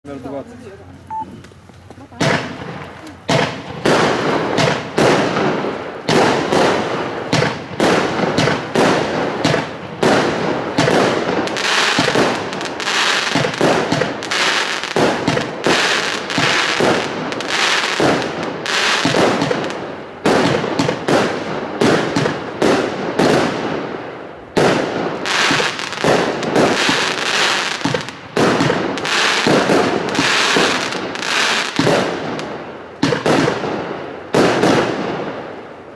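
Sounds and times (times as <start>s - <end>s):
firework tubes thumping: 1.4s - 23.6s, 24.6s - 33.7s
firework shells bursting: 2.2s - 23.9s, 24.6s - 33.8s.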